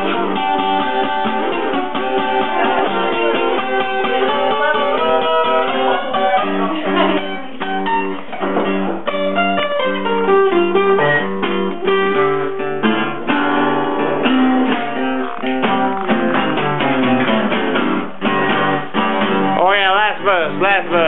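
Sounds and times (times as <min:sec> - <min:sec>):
acoustic guitars playing blues: 0:00.0 - 0:21.0.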